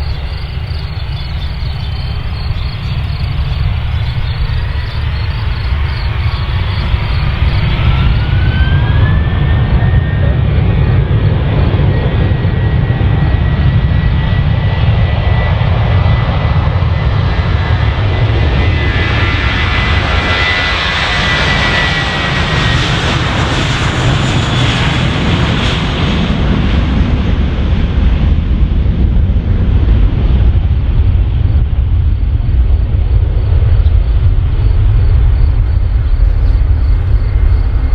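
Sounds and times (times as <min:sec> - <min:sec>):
low rumble: 0:00.0 - 0:20.2, 0:26.0 - 0:37.9
jet engines roaring: 0:00.0 - 0:37.9
turbine whine: 0:00.0 - 0:37.9.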